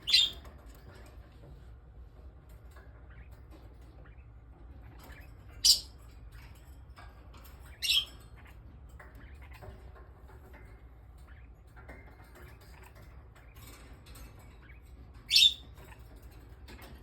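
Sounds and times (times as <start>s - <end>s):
light tapping and scratching: 0.0s - 17.0s.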